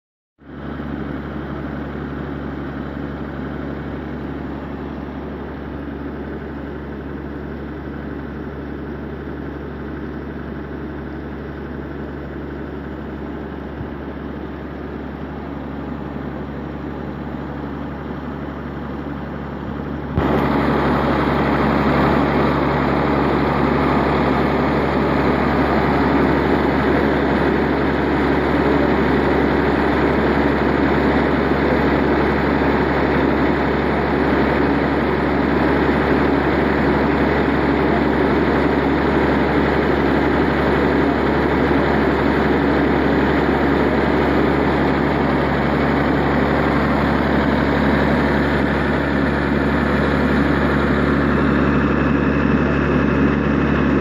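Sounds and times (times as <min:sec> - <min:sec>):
engine humming: 0:00.5 - 0:54.0.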